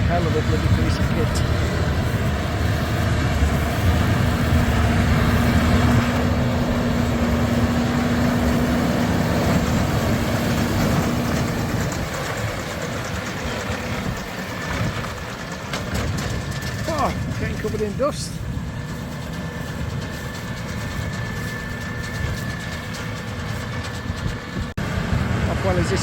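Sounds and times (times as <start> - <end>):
baler mechanical rumble: 0.0 - 26.0
tractor engine under load: 0.0 - 26.0.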